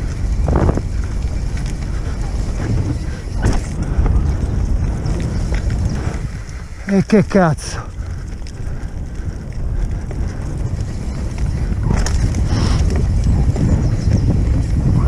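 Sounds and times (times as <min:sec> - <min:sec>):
bike rattle: 0:00.0 - 0:15.0
bike tyres rolling on dirt: 0:00.0 - 0:15.0
wind buffeting microphone: 0:00.0 - 0:15.0.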